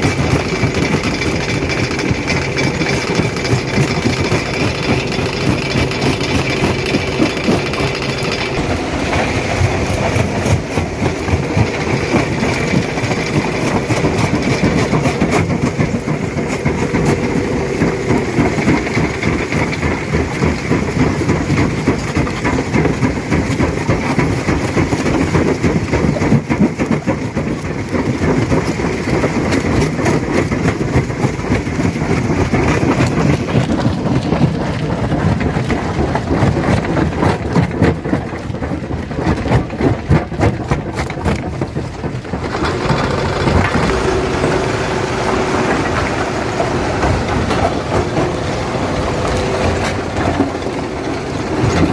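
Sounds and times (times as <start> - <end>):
stone crusher rumbling: 0.0 - 51.9.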